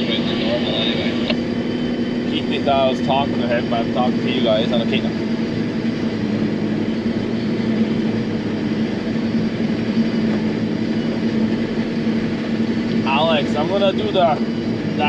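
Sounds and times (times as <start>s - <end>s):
forage harvester engine droning: 0.0s - 15.0s.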